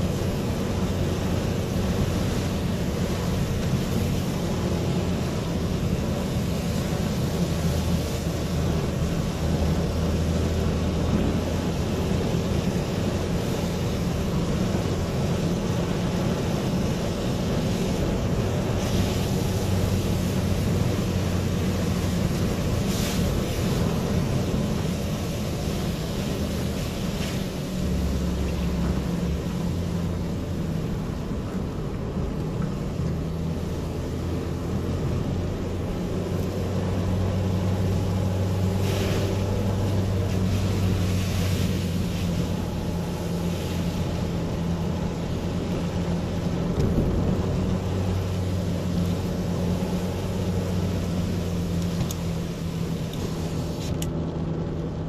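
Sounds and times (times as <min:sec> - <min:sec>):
tyre hiss on wet road: 0:00.0 - 0:54.0
car engine drone: 0:00.0 - 0:55.0.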